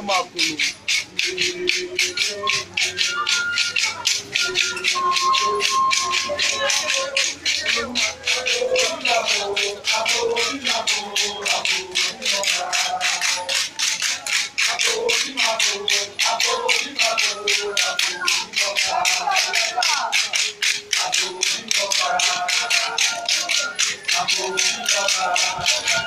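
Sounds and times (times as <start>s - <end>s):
crowd singing: 0.0s - 26.0s
shaken rattles: 0.0s - 26.0s.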